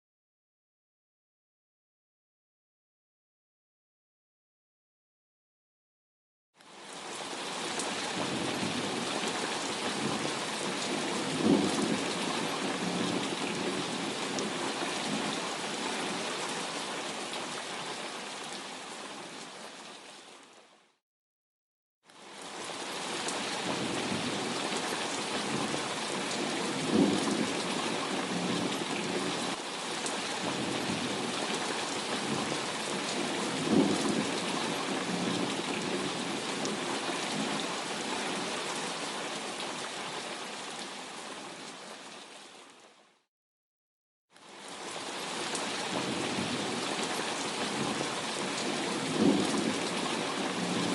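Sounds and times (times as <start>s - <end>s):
heavy rain: 6.6s - 21.0s, 22.1s - 43.2s, 44.4s - 50.9s.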